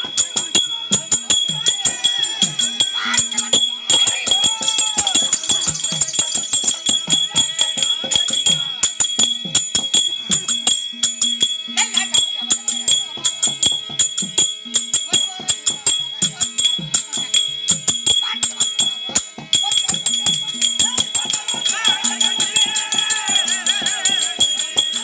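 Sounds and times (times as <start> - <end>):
jingling metal bells and cymbals: 0.0 - 25.0.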